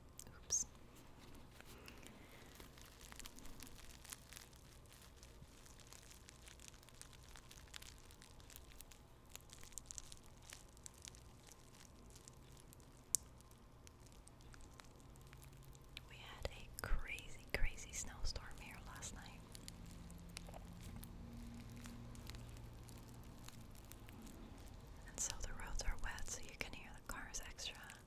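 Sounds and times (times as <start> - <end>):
tea bags paper crinkling: 0.3 - 28.0.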